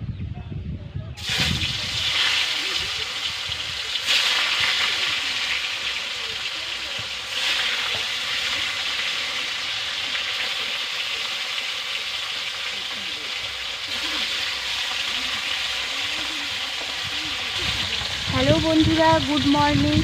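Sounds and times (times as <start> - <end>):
fish sizzling in hot oil: 1.2 - 20.0.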